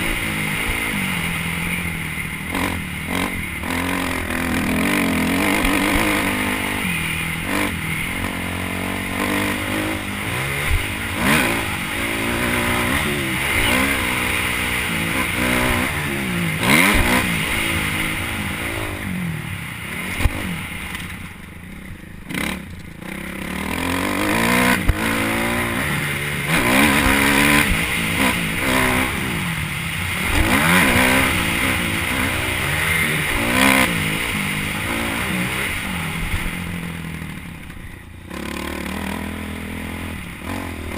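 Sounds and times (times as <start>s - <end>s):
motocross motorcycle engine revving: 0.0s - 21.4s, 22.2s - 40.9s.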